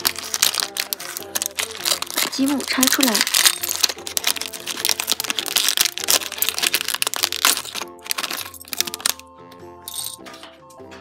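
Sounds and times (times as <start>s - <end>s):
plastic bag crinkling: 0.0s - 9.2s
light background music: 0.0s - 11.0s.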